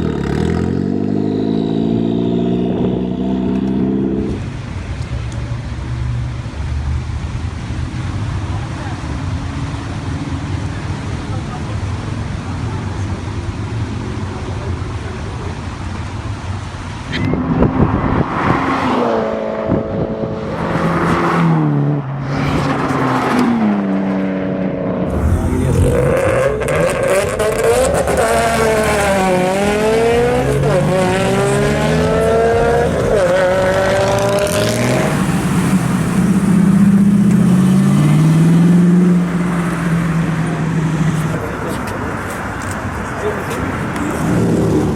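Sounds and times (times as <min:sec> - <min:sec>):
car engines revving hard: 0:00.0 - 0:44.9.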